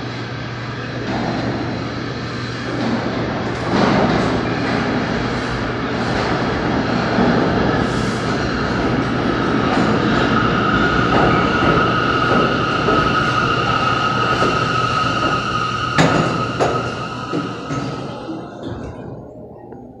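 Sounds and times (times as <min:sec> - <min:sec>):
high-pitched train whine: 0:00.0 - 0:19.5
subway train wheel rumble: 0:00.0 - 0:20.0
sharp train clunks: 0:01.0 - 0:19.0.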